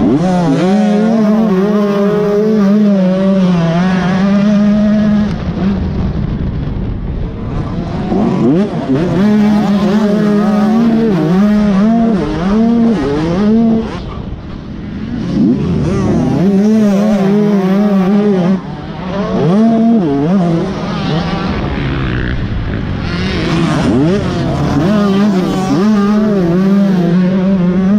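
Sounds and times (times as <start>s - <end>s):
dirt bike engine revving: 0.0s - 6.3s, 7.2s - 27.9s.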